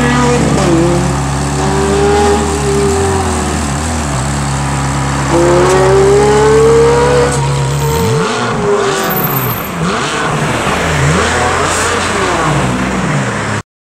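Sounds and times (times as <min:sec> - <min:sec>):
car engine accelerating: 0:00.0 - 0:13.6.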